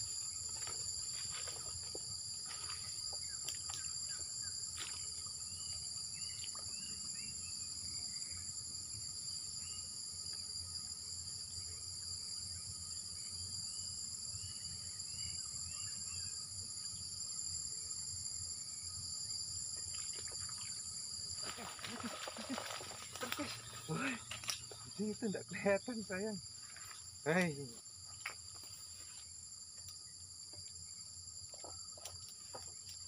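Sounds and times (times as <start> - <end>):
insect trills: 0.0 - 33.0.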